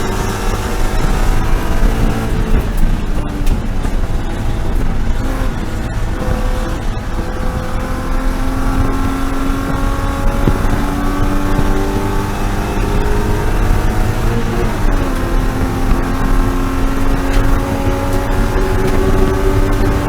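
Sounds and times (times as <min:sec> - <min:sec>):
race car engine pulling: 0:00.0 - 0:20.0
road and wind rumble: 0:00.0 - 0:20.0.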